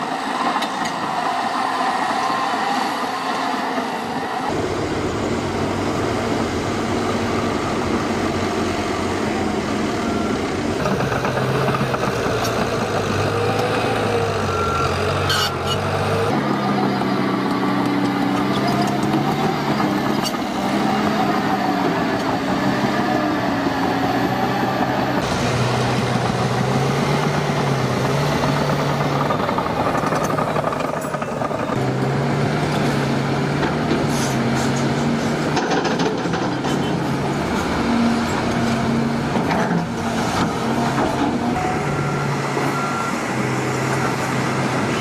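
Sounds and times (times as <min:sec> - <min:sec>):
heavy diesel engines running: 0:00.0 - 0:45.0.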